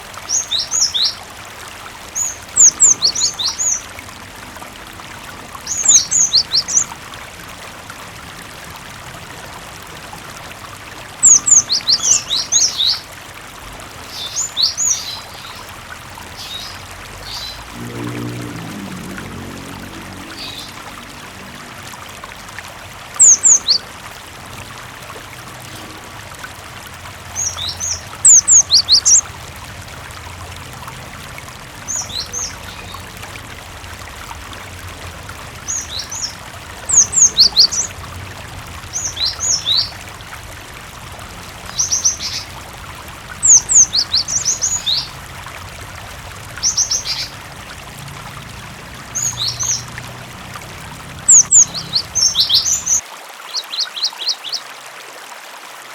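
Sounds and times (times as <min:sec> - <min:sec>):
running water: 0:00.0 - 0:55.9.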